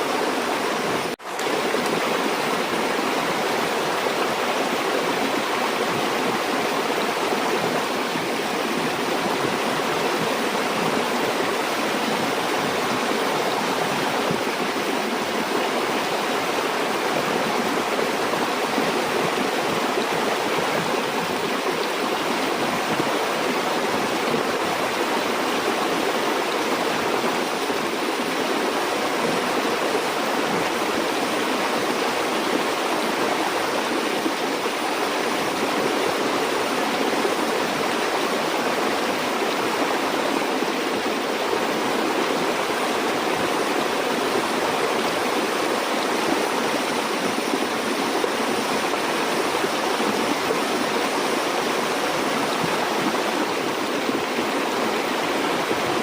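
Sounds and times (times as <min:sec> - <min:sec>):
stream gurgling over rocks: 0:00.0 - 0:56.0.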